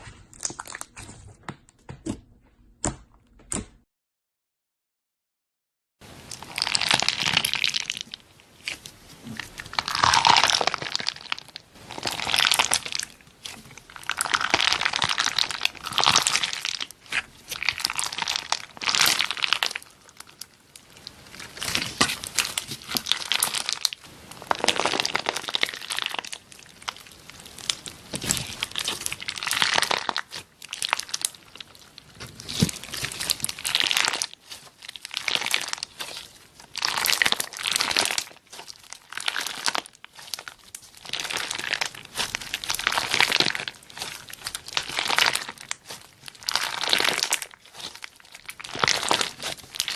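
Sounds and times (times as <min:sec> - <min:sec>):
slime crackling squeezed by hand: 0:06.2 - 0:49.9.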